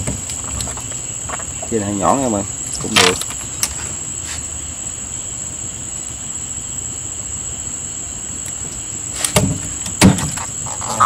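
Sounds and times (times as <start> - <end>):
night insects chorus: 0.0 - 11.0.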